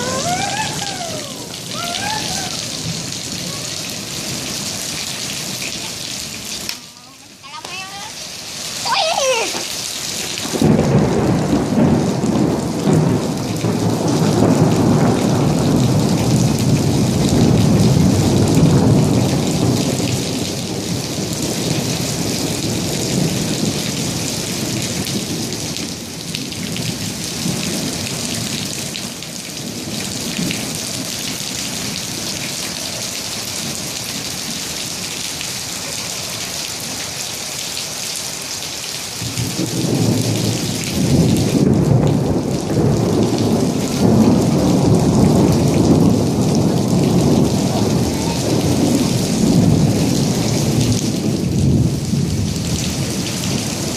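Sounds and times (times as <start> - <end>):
thunder rumbling: 0.0 - 6.4, 10.2 - 32.5, 39.2 - 53.9
heavy rain pouring: 0.0 - 53.9.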